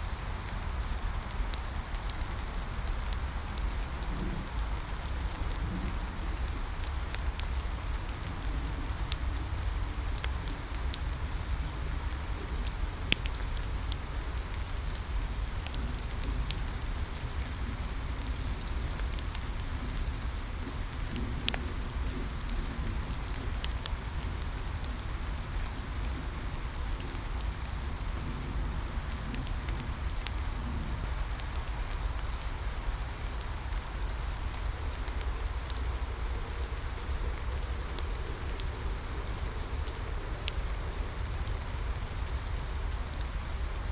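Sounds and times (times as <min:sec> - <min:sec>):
steady rain falling: 0:00.0 - 0:43.9
bonfire crackling and popping: 0:00.1 - 0:43.9.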